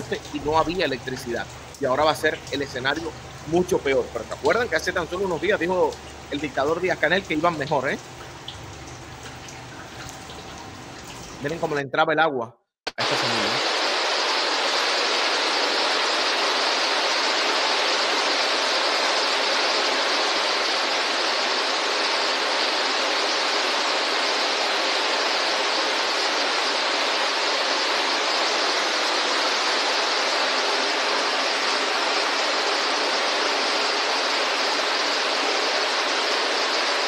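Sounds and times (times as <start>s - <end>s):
water rushing: 0.0s - 11.8s, 12.9s - 37.0s.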